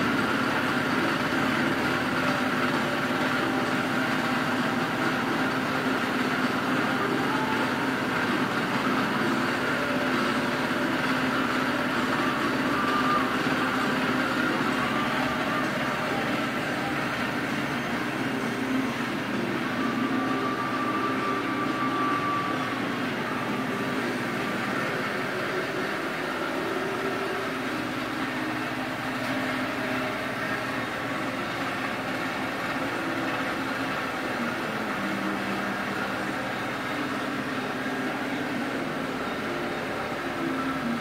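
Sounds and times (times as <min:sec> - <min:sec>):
faint high whine: 0:00.0 - 0:41.0
steady mechanical hum with hiss: 0:00.0 - 0:41.0.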